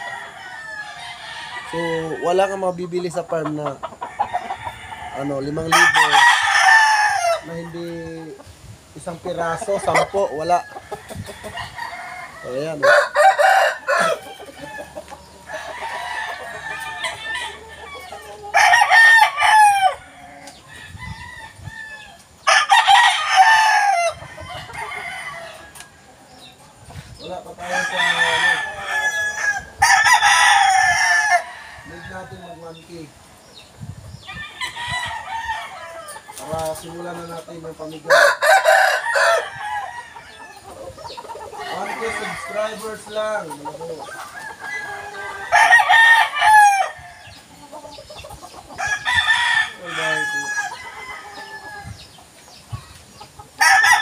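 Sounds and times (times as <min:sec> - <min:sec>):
chickens clucking: 0:00.0 - 0:54.0
roosters crowing: 0:00.0 - 0:54.0.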